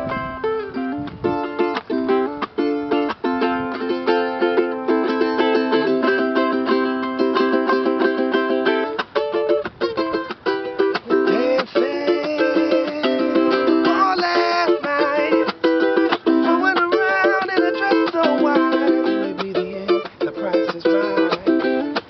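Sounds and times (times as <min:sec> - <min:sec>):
ukulele strumming chords: 0:00.0 - 0:22.0.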